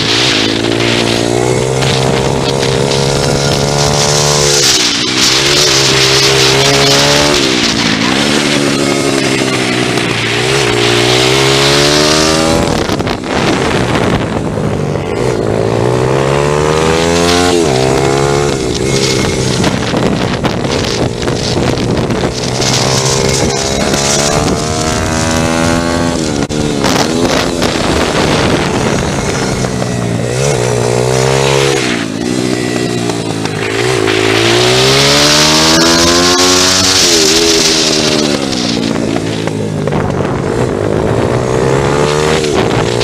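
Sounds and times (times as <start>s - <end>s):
pit bike engine revving: 0.0s - 43.0s.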